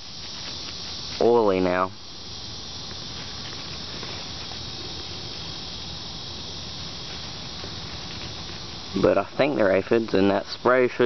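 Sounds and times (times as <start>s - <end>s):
high-pitched outdoor hiss: 0.0s - 11.0s.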